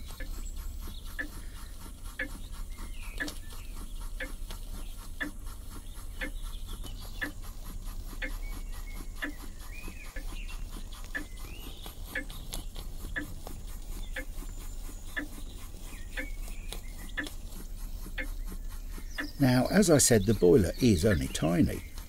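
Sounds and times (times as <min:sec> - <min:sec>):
steam engine exhaust puffing: 0:00.0 - 0:22.0.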